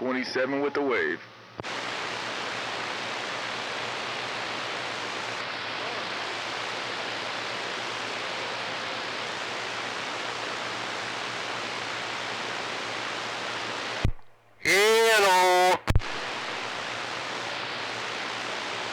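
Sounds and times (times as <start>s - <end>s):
radio static hiss: 0.4s - 18.9s.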